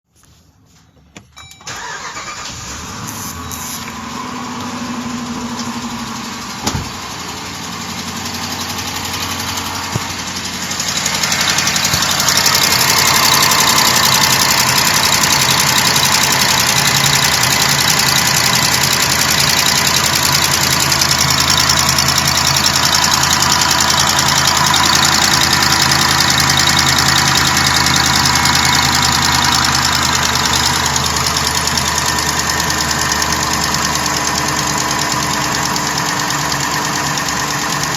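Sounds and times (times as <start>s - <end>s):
car engine idling: 1.8s - 37.9s
rapid engine ticking: 4.6s - 37.9s.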